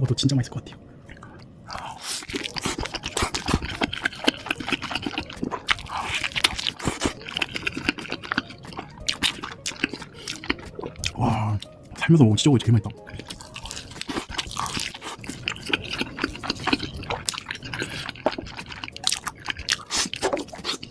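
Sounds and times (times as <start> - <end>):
person chewing a burger: 1.0 - 11.8, 12.9 - 20.9.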